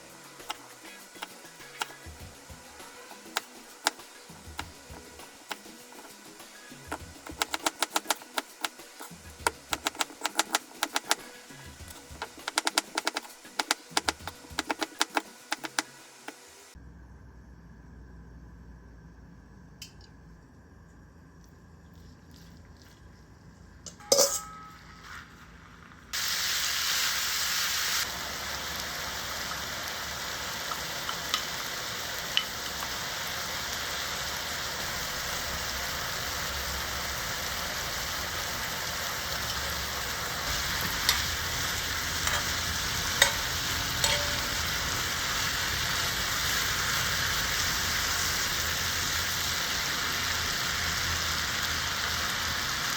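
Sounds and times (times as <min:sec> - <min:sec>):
food sizzling in a pan: 0:00.0 - 0:16.8, 0:25.0 - 0:52.9.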